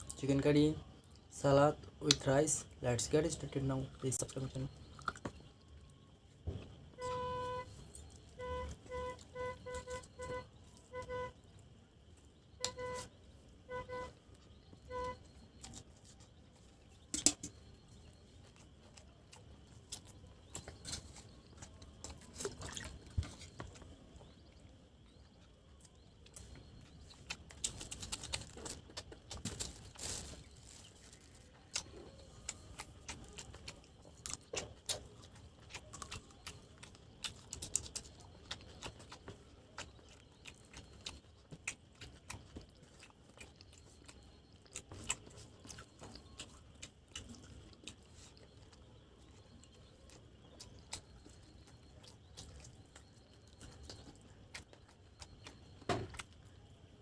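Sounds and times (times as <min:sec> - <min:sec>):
food handled and eaten by hand: 0:00.0 - 0:57.0.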